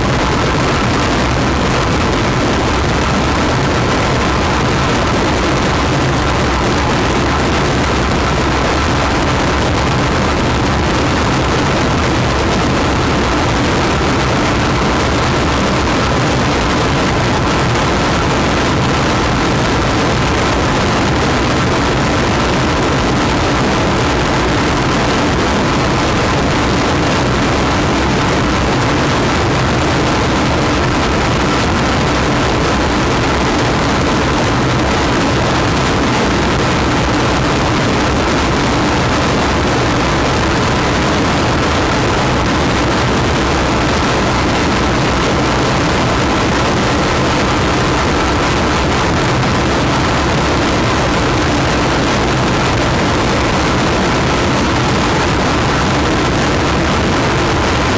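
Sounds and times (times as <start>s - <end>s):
harsh mechanical noise drone: 0.0s - 57.9s.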